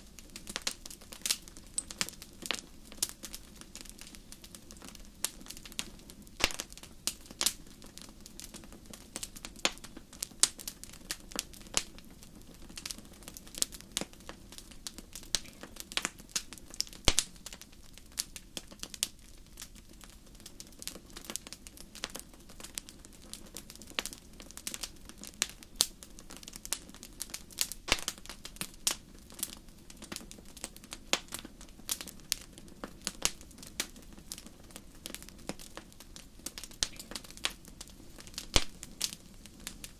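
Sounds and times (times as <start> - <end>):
fire pops and snaps: 0.0 - 39.9
low rumble of flame: 0.0 - 39.9.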